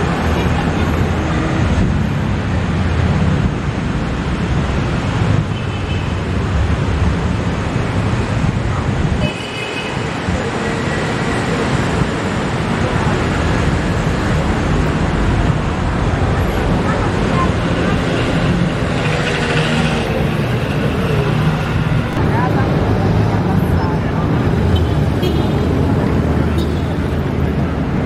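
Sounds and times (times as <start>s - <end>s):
cars and scooters passing: 0.0s - 28.0s.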